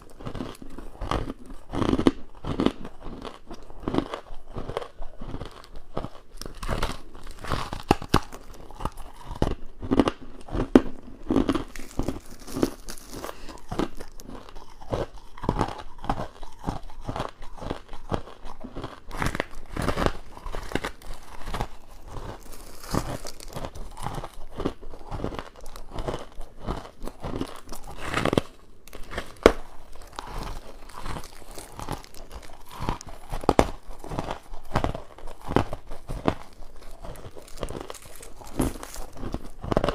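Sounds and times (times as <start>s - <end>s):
crunching bites into ice: 0.2s - 39.9s.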